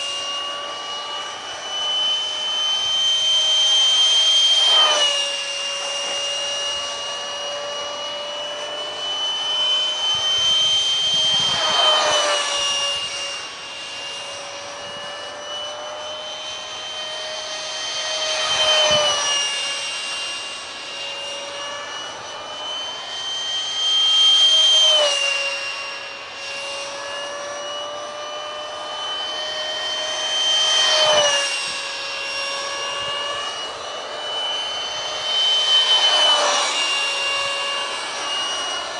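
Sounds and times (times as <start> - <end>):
electric ducted fan whine passing: 0.0 - 38.9.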